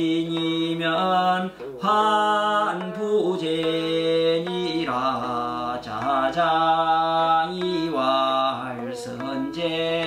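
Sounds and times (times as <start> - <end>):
person chanting in long sung notes: 0.0 - 10.0.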